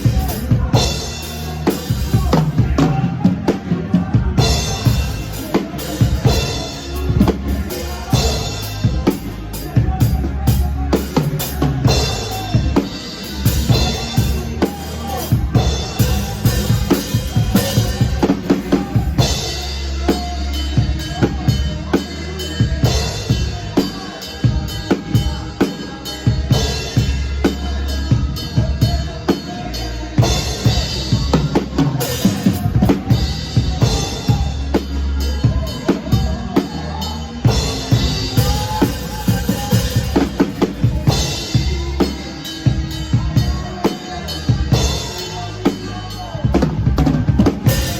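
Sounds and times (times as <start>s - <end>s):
bass line: 0.0s - 47.9s
live band music: 0.0s - 47.9s.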